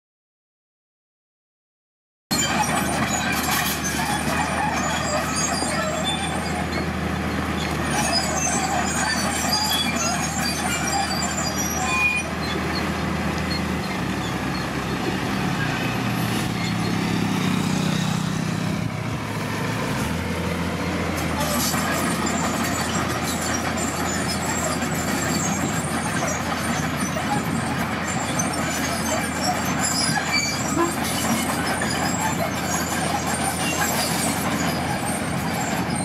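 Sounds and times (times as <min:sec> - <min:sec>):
diesel truck engine: 0:02.3 - 0:36.0.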